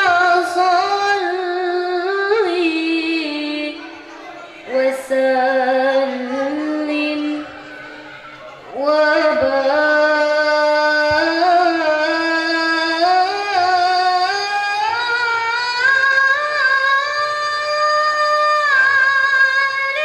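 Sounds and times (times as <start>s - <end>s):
woman chanting into a microphone: 0.0s - 20.0s.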